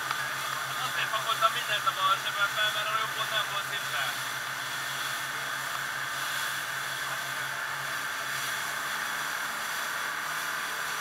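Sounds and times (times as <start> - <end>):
motorboat engine drone: 0.0 - 11.0
rush of wind and water: 0.0 - 11.0.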